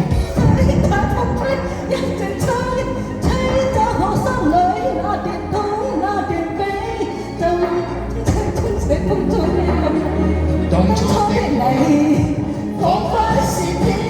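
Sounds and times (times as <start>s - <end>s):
pop ballad backing track: 0.0s - 14.0s.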